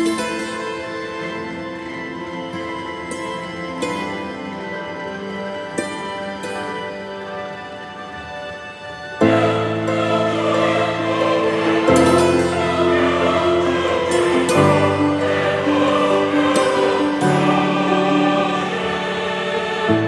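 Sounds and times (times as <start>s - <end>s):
sustained choral chords: 0.0s - 20.0s.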